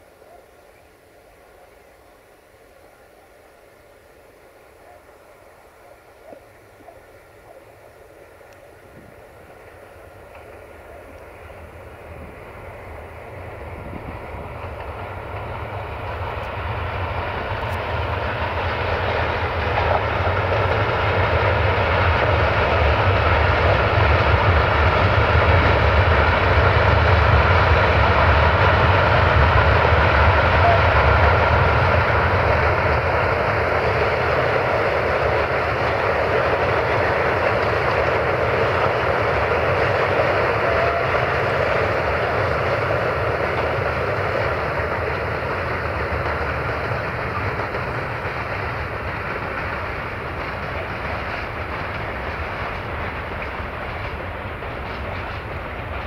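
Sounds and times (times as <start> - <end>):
diesel locomotive rumbling: 0.0 - 56.0.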